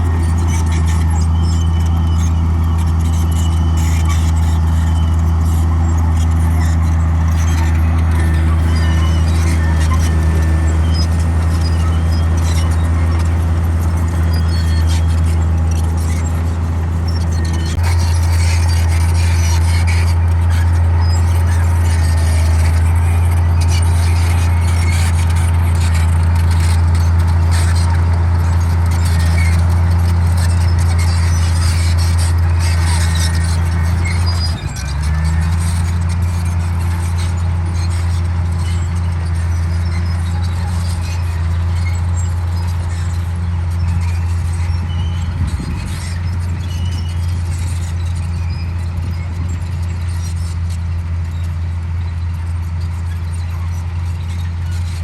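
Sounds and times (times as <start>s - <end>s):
bulldozer diesel engine running: 0.0s - 55.0s
steel tracks squeaking and clinking: 0.0s - 55.0s.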